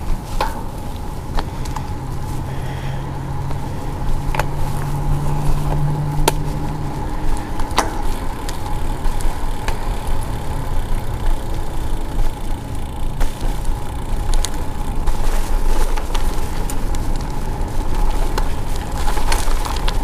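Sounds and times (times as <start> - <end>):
sharp clicks and knocks from bumps: 0.0 - 2.1, 3.4 - 20.0
bicycle tyre rumble: 0.0 - 20.0
low steady hum: 0.0 - 20.0.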